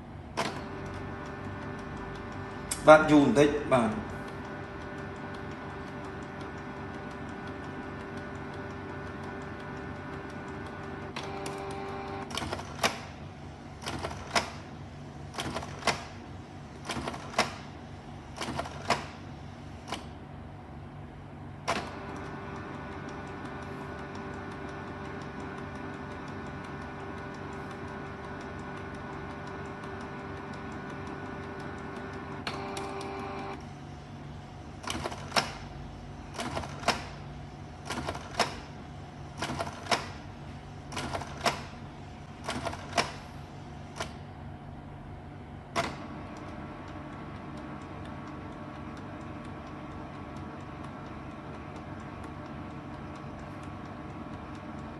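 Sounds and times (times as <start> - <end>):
printer motor whine: 0.0 - 20.2, 21.4 - 54.9
printer mechanism clicking: 0.3 - 3.5, 4.2 - 20.2, 21.6 - 33.6, 34.7 - 44.4, 45.7 - 54.9.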